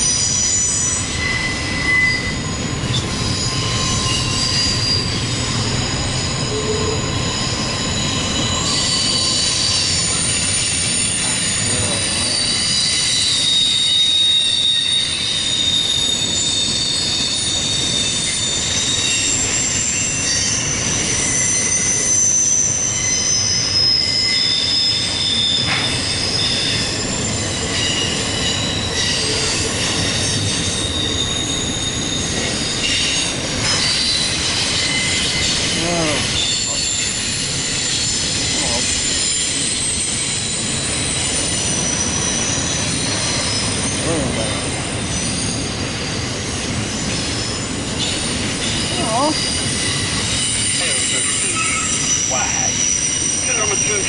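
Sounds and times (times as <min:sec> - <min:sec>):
rumble of rolling train cars: 0:00.0 - 0:54.0
train wheels squealing: 0:00.0 - 0:54.0.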